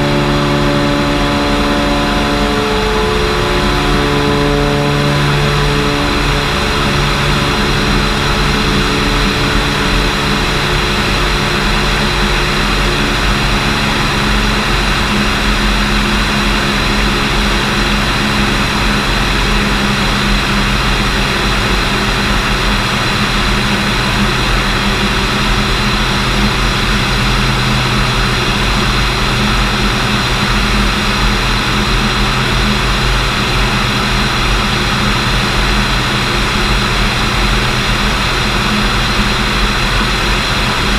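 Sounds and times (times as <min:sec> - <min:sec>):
aircraft engine and propeller: 0:00.0 - 0:40.9.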